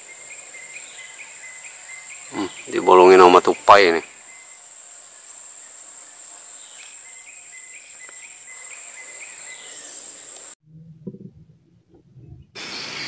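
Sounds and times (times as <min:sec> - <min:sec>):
insects droning: 0:00.0 - 0:10.6.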